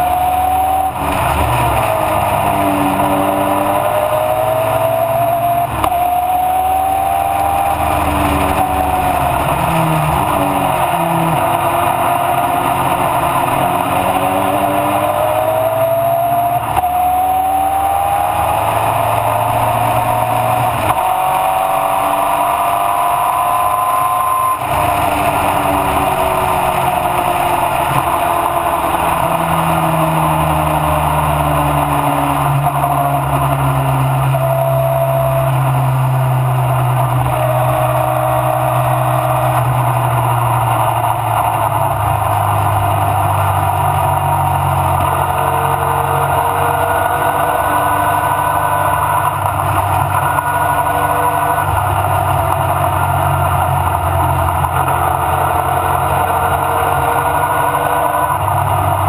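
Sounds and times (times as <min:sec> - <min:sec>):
racing car engine running hard: 0:00.0 - 0:59.0.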